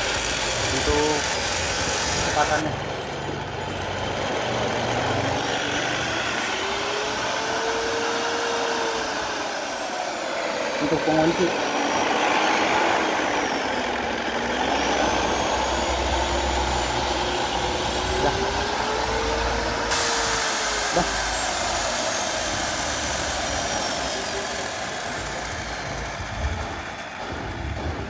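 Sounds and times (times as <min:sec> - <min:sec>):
paint mixer motor running: 0:00.0 - 0:28.0.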